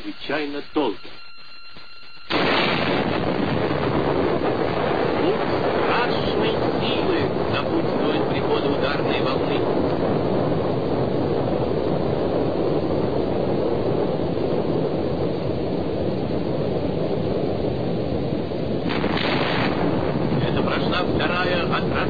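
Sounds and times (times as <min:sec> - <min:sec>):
deep explosion rumble: 0:02.3 - 0:22.0.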